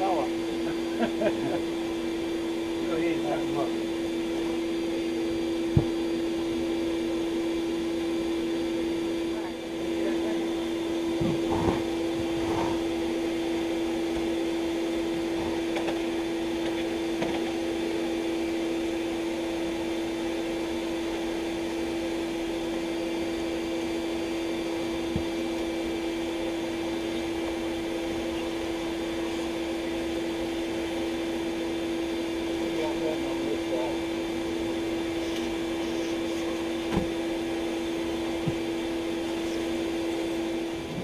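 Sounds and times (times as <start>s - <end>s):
vacuum humming: 0.0s - 41.0s.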